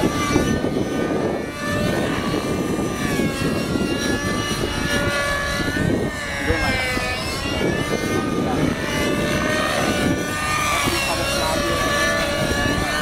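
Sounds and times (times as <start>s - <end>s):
model helicopter engine whine: 0.0s - 13.0s.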